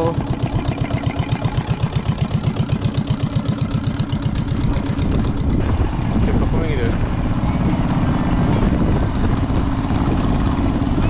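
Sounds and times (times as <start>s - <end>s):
small outboard engine chugging: 0.0s - 11.0s.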